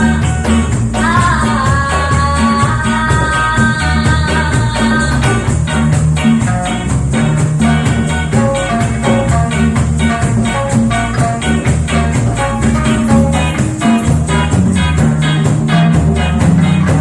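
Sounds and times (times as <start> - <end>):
live reggae band playing: 0.0 - 17.0.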